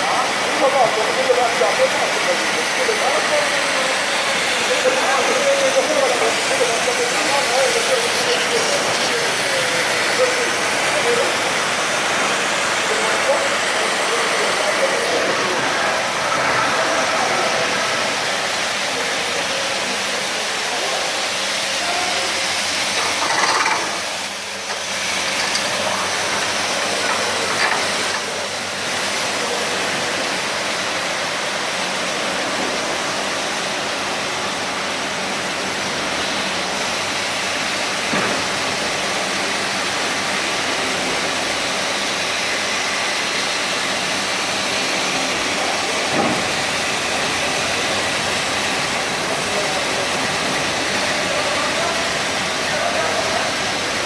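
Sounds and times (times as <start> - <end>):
carpet washing machine hiss: 0.0 - 54.0.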